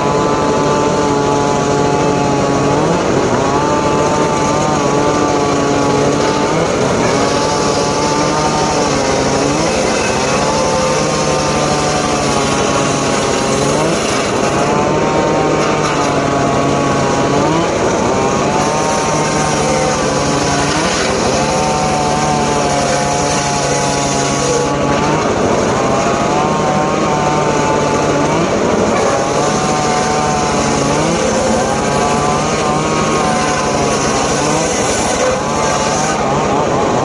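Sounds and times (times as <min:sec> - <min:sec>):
circular saw cutting wood: 0:00.0 - 0:37.0.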